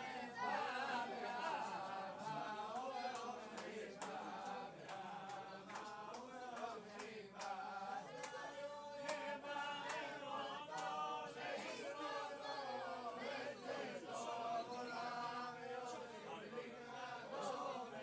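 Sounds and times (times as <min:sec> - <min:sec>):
men singing unaccompanied: 0:00.0 - 0:18.0.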